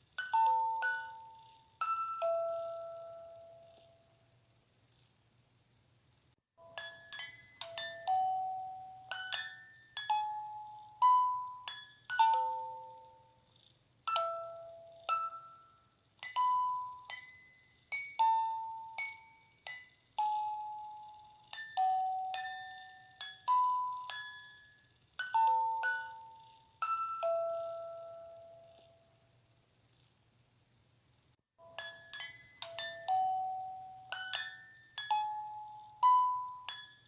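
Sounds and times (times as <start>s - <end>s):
bell-like lullaby melody: 0.0s - 4.1s, 6.6s - 13.5s, 14.1s - 29.2s, 31.6s - 37.0s.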